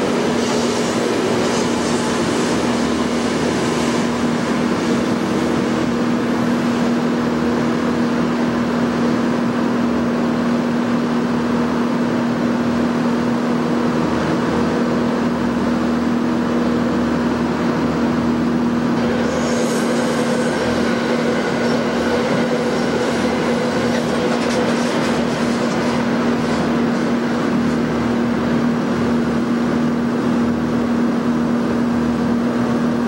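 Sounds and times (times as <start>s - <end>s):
train cars rattling on tracks: 0.0s - 32.9s
loud droning hum: 0.0s - 33.0s.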